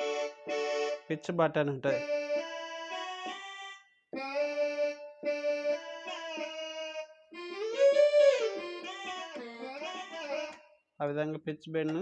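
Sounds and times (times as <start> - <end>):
reedy keyboard held notes: 0.0 - 10.6.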